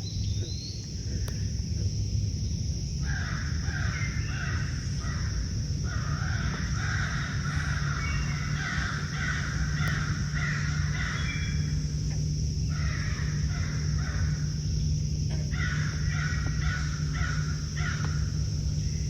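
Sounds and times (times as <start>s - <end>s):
frogs croaking: 0.0s - 19.0s
steady high-pitched hum: 0.0s - 19.0s.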